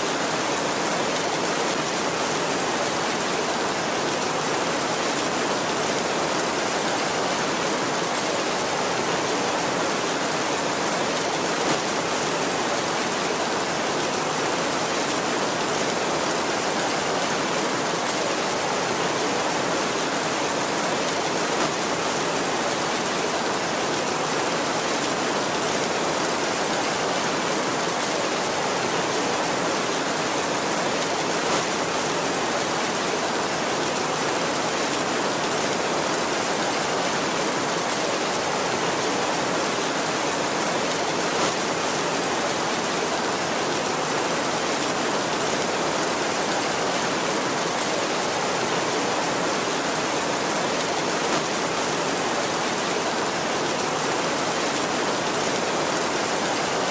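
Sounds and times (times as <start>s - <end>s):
heavy rain on a tin roof: 0.0s - 56.9s.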